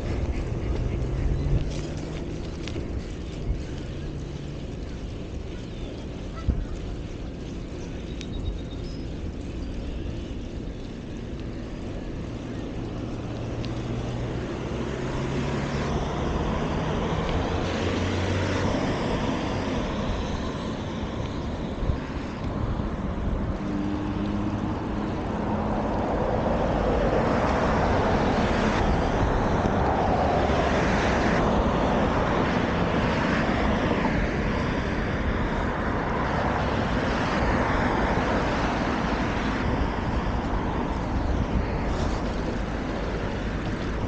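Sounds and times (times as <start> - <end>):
bicycle road noise: 0.0 - 44.0
rushing wind: 0.0 - 44.0
wind buffeting microphone: 0.0 - 44.0.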